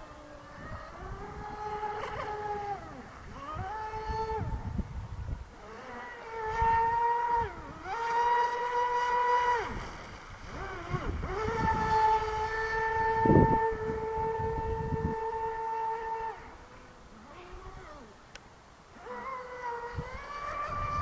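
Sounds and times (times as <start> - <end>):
model boat motor whining: 0.0 - 18.3, 18.9 - 21.0.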